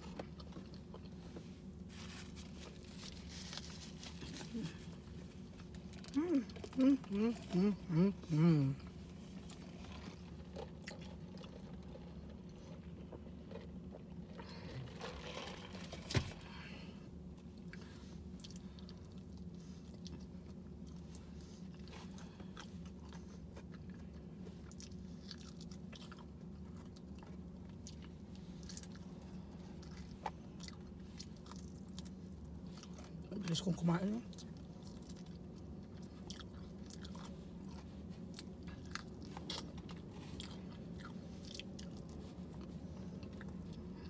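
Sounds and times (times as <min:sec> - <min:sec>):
crunchy chewing of fried chicken: 0:00.0 - 0:44.0.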